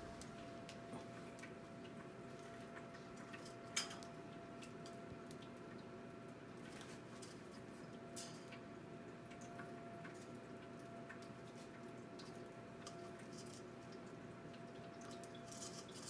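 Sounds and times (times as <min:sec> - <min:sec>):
faint steady hum: 0:00.0 - 0:16.0
water fountain dripping: 0:00.1 - 0:16.0.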